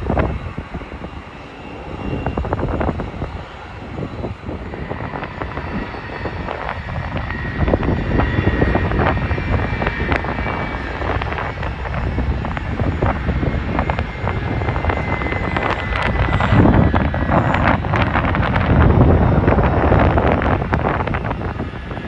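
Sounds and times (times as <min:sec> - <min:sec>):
jet engines whining and rumbling: 0:00.0 - 0:22.0.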